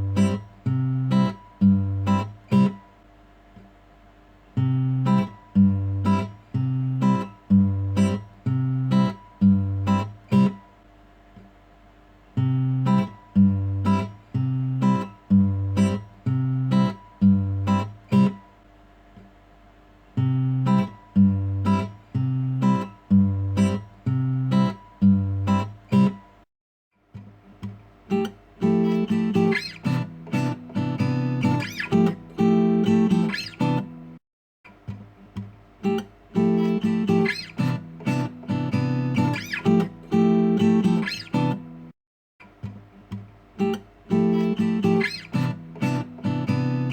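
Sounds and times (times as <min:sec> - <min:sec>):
acoustic guitar music: 0:00.0 - 0:03.0, 0:04.6 - 0:10.8, 0:12.3 - 0:18.6, 0:20.2 - 0:26.4, 0:27.2 - 0:34.2, 0:34.8 - 0:41.9, 0:42.5 - 0:46.9.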